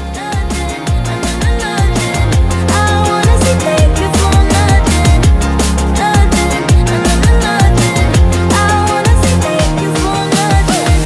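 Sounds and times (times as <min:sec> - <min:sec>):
electronic pop music: 0:00.0 - 0:11.0.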